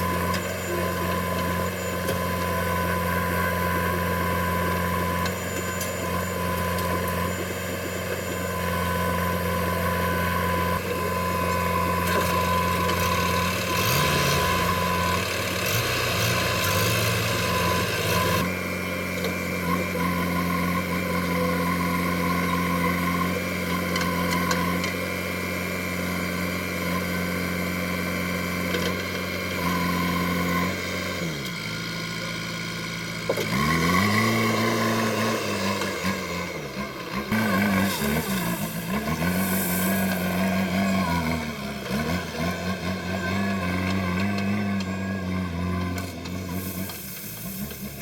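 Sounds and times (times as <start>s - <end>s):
backhoe diesel engine revving: 0.0s - 48.0s.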